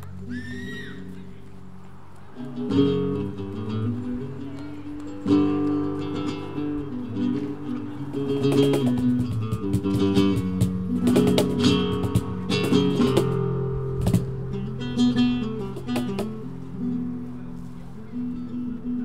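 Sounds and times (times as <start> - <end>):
flamenco acoustic guitar music: 0.0 - 19.0.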